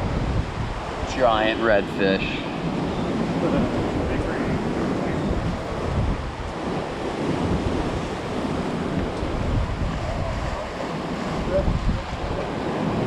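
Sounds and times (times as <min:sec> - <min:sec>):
ocean surf breaking around pilings: 0:00.0 - 0:13.0
wind buffeting microphone: 0:00.0 - 0:13.0.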